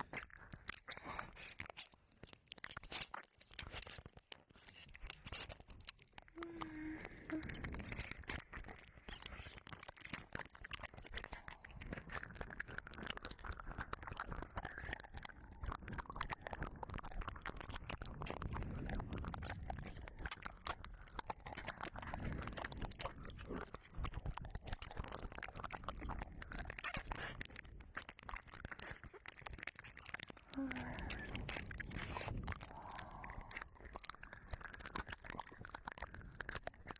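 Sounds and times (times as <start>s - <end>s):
wet licking mouth sounds: 0.0s - 36.9s.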